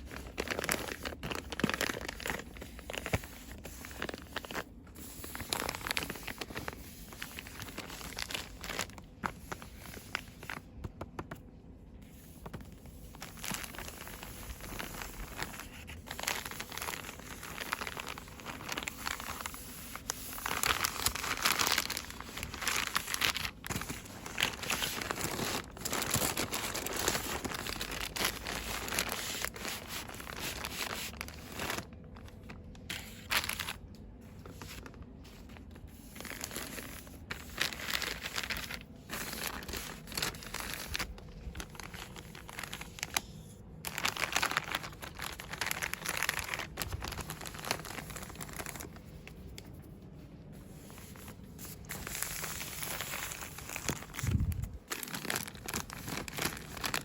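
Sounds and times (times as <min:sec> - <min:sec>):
packaging crinkling and rustling: 0:00.0 - 0:57.0.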